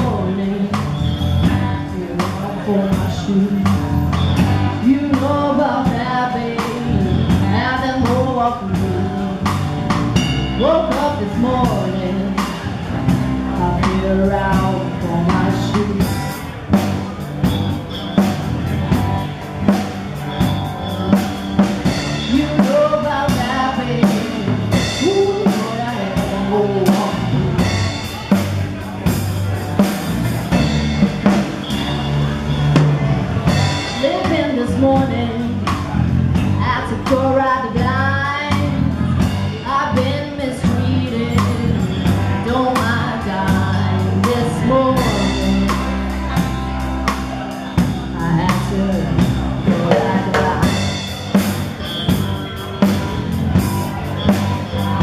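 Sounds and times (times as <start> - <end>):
live blues band playing: 0.0 - 55.0.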